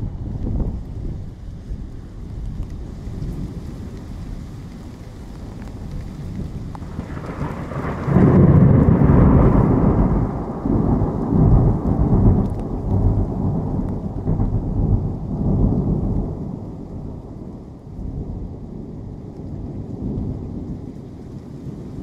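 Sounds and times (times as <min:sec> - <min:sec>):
rain falling: 0:00.0 - 0:22.0
thunder rumbling: 0:00.0 - 0:22.0.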